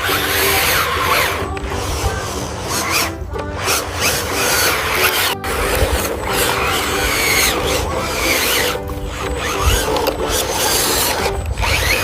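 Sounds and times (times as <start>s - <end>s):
background music: 0.0s - 12.0s
rasping scraping noise: 0.0s - 12.0s
squealing glides: 0.0s - 12.0s.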